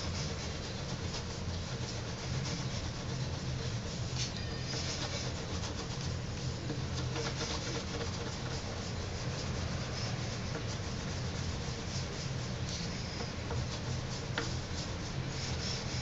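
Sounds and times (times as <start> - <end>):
potter's wheel humming: 0.0 - 16.0
scraping against spinning clay: 0.0 - 16.0.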